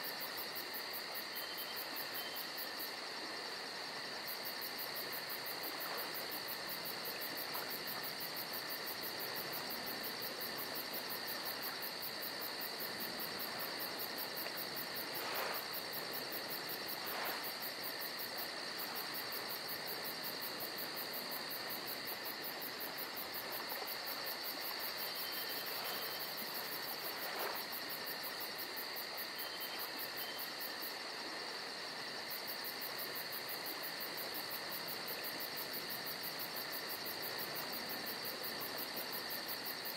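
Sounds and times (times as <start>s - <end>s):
high pulsing insect trill: 0.0s - 39.9s.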